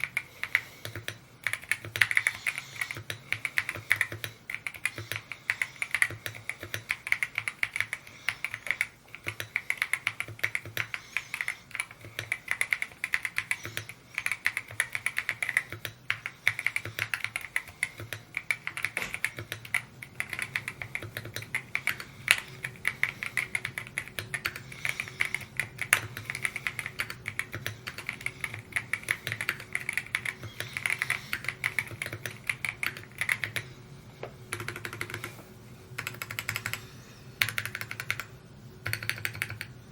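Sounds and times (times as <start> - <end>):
fast typing on mechanical keyboard: 0.0 - 33.7, 34.5 - 35.4, 36.0 - 36.8, 37.4 - 39.9.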